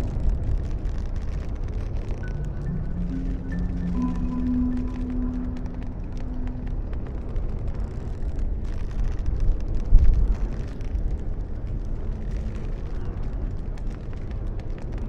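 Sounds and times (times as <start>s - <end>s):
faint clicks and ticks: 0.0s - 15.0s.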